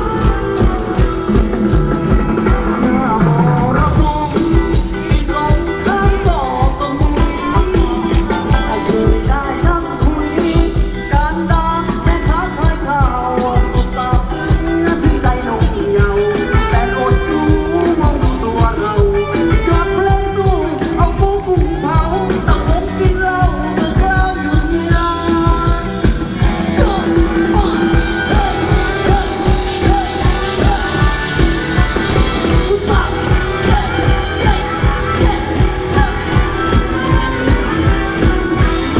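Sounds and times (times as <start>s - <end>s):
live band dance song: 0.0s - 38.9s
person singing: 0.0s - 38.9s.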